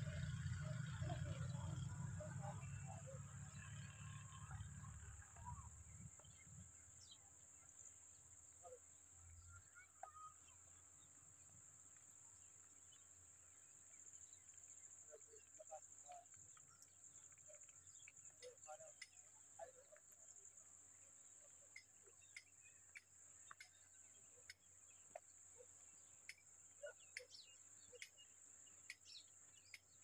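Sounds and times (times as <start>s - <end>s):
soft chirps: 2.5s - 30.0s.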